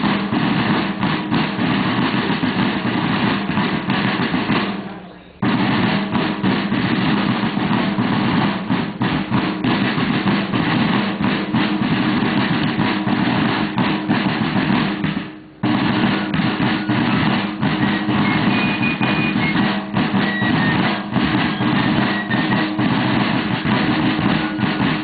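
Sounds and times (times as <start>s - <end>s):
snare drums playing with rolls: 0.0s - 25.0s.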